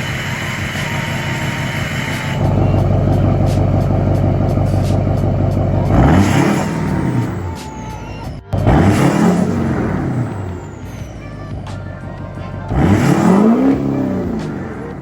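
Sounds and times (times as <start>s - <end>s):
diesel truck engine running: 0.0s - 15.0s
engine revving: 0.0s - 15.0s.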